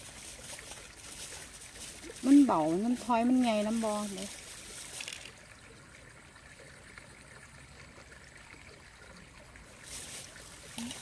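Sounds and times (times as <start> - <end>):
low steady outdoor hiss: 0.0 - 11.0.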